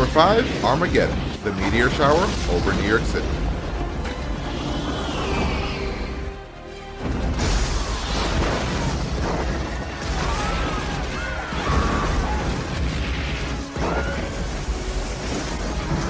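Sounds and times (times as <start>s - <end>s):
impacts and explosions: 0.0s - 16.0s
orchestral score: 0.0s - 16.0s.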